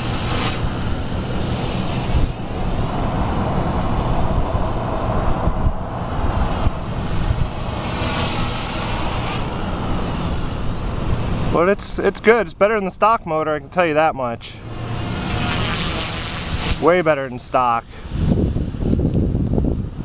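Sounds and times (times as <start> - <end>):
rc helicopter motor whine: 0.0 - 12.8, 14.5 - 20.0.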